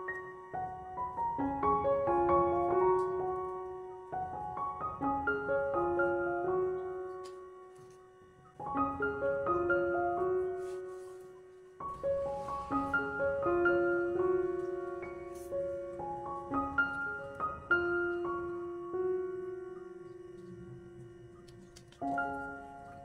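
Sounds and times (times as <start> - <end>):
gentle piano melody: 0.0 - 23.0.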